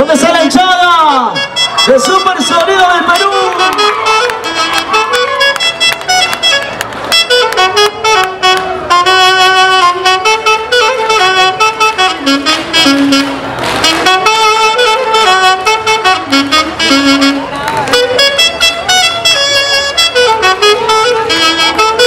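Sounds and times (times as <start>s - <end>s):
band playing lively melody: 0.0s - 22.0s
saxophones playing in unison: 0.8s - 22.0s.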